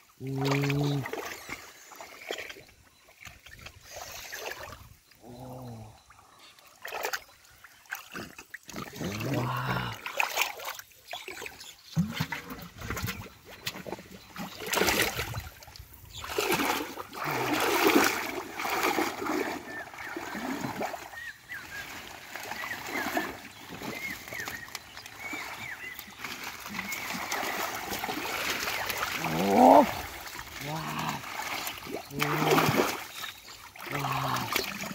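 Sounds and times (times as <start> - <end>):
muddy water splashing: 0.0 - 34.9.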